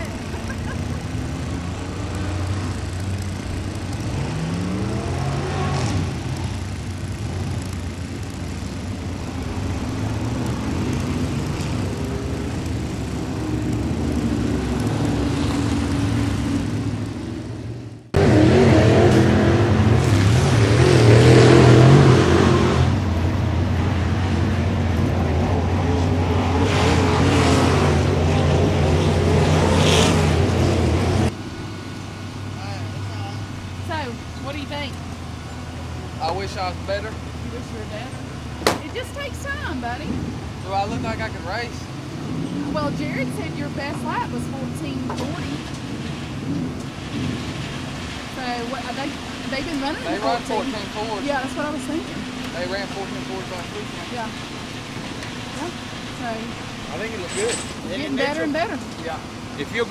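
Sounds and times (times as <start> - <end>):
race car engine revving: 0.0 - 31.6, 32.4 - 59.9.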